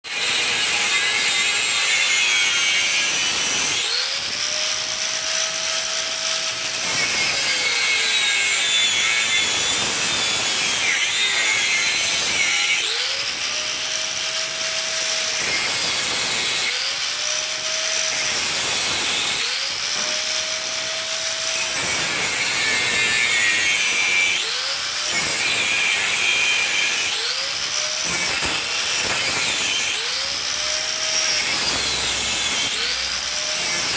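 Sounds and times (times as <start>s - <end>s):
electric grinder whining on steel: 0.0s - 33.9s.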